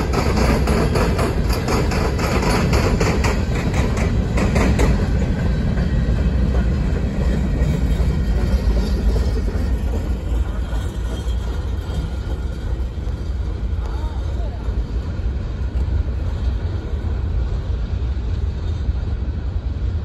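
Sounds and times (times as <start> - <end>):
wheels clattering over rail joints: 0.0 - 17.3
freight train rumbling past: 0.0 - 20.0.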